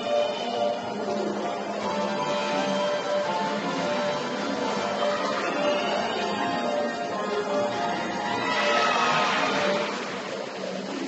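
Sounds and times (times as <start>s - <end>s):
music with held notes: 0.0s - 11.0s.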